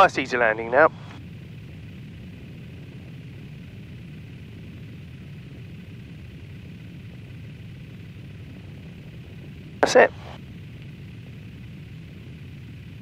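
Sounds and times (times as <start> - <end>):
light aircraft engine rumble: 0.0 - 13.0
rushing airflow: 0.0 - 13.0.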